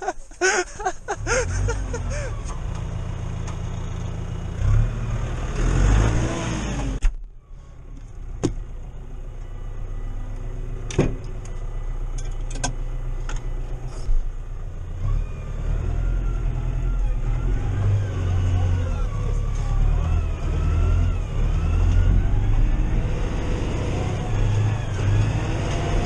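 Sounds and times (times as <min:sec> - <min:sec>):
tractor diesel engine running: 0:00.0 - 0:05.6, 0:06.8 - 0:26.0.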